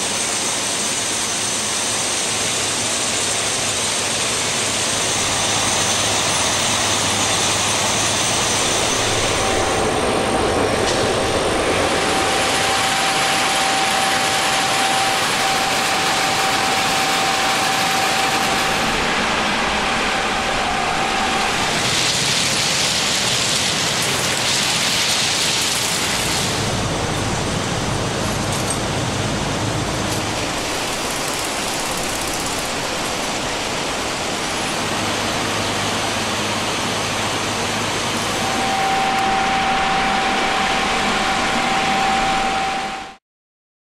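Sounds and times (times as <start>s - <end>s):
thin steady whine: 0.0s - 43.2s
heavy machinery din: 4.7s - 43.2s.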